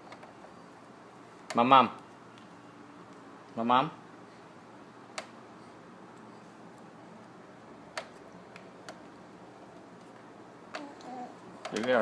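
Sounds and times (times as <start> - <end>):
faint room noise: 0.0 - 12.0.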